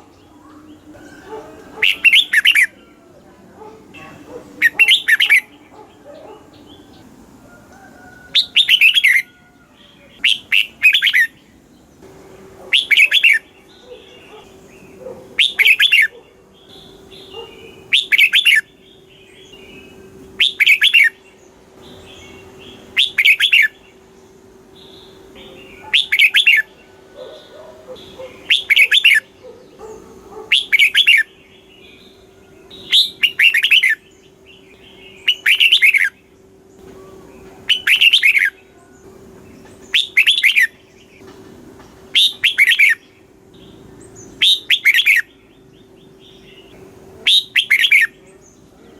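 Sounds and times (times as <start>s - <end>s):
bird singing warbled phrases: 0.0s - 7.2s, 7.9s - 48.9s
soft bird chatter: 0.0s - 48.9s.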